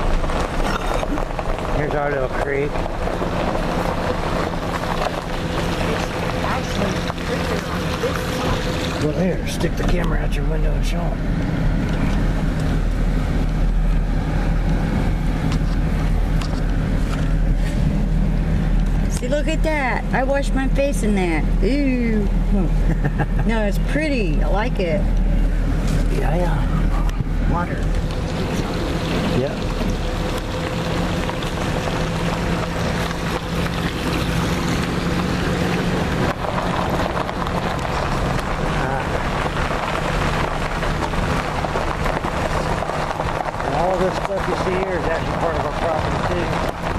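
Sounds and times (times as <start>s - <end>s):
engine and tyre rumble: 0.0s - 46.9s.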